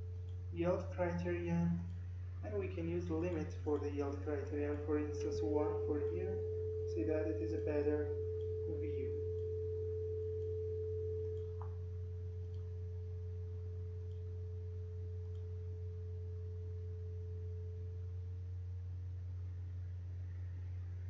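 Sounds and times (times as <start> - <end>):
faint steady tone: 0.0 - 21.0
low electrical hum: 0.0 - 21.0.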